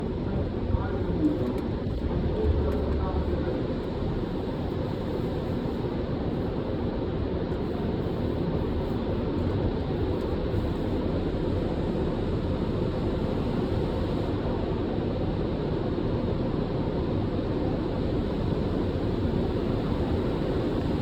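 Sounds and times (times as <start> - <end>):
automatic car wash rushing: 0.0 - 21.0.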